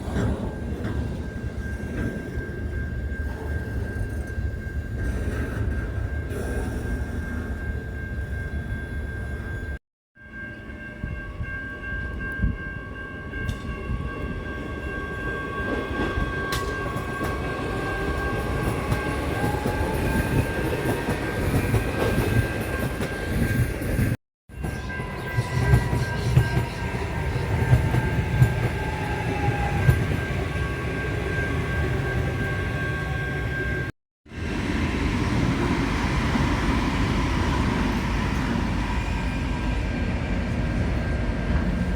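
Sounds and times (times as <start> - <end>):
train rumbling: 0.0 - 9.8, 10.4 - 41.9.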